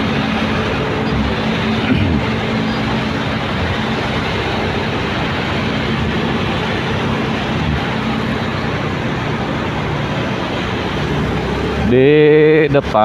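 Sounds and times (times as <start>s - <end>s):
motorcycle engine hum: 0.0s - 13.0s
rushing ride noise: 0.0s - 13.0s.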